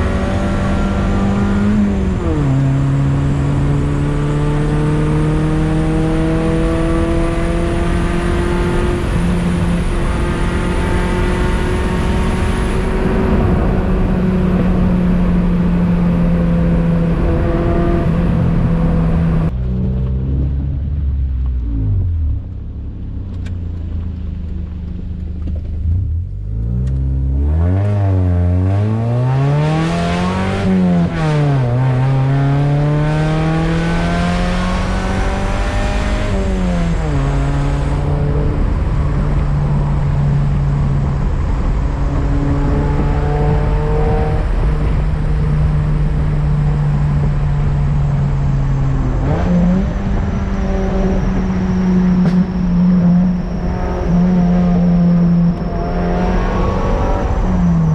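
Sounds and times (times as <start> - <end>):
car engine revving through gears: 0.0 - 20.5, 25.4 - 57.9.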